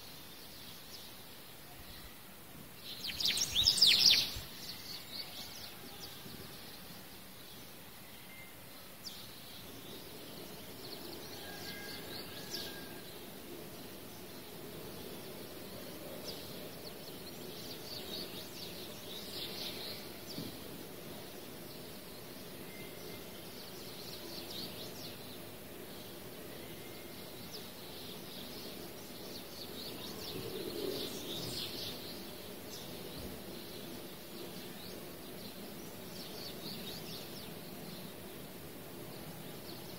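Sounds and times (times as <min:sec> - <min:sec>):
background hiss: 0:00.0 - 0:39.9.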